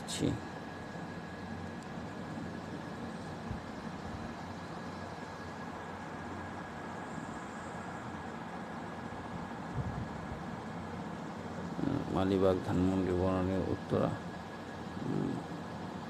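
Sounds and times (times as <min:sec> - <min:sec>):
background hum and hiss: 0:00.0 - 0:16.0
faint high whine: 0:00.0 - 0:16.0.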